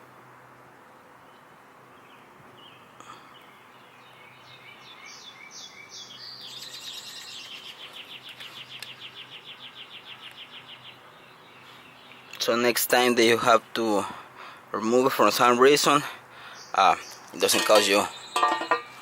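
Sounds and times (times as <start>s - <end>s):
songbird singing a trill: 1.2s - 14.0s, 14.8s - 19.0s.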